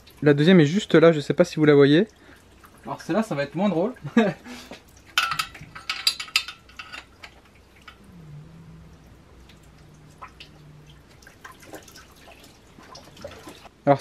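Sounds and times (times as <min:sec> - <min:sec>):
coolant dripping into a basin: 0:00.0 - 0:13.7.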